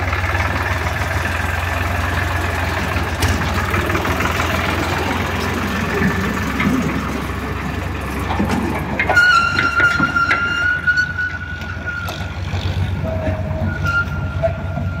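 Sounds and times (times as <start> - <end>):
tractor diesel engine rumble: 0.0 - 15.0.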